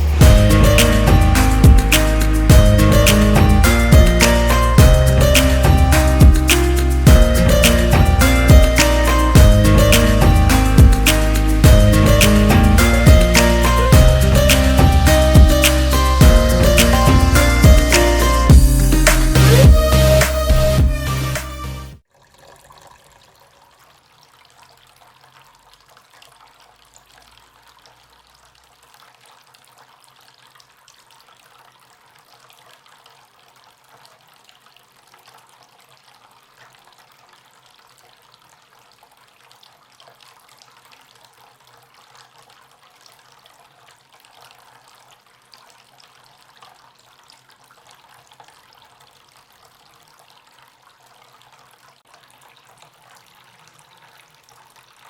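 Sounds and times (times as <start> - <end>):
fountain water trickling: 0.0 - 19.6, 22.0 - 55.0.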